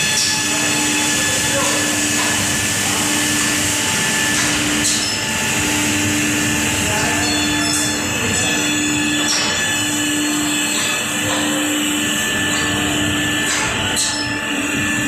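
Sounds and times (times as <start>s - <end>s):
woodworking machinery running: 0.0s - 15.0s.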